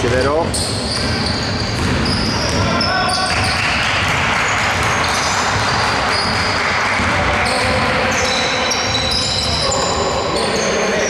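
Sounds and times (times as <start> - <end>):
sneakers squeaking on court: 0.0 - 6.6, 7.4 - 10.8
basketball bouncing: 0.0 - 9.6.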